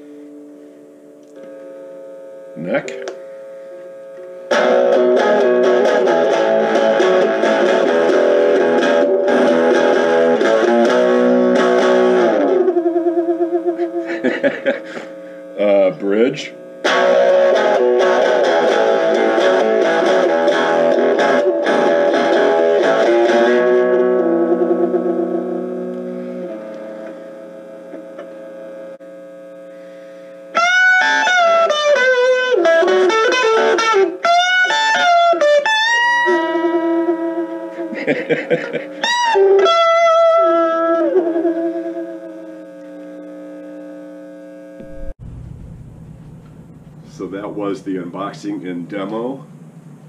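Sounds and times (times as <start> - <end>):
electric guitar lead with bends: 0.0 - 15.7, 16.8 - 47.7
distorted electric guitar chords: 0.0 - 50.0.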